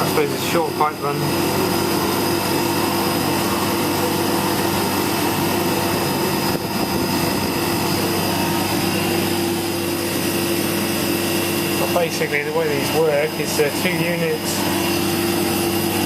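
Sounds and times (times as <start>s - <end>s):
high whine: 0.0s - 16.0s
refrigeration unit humming: 0.0s - 16.0s.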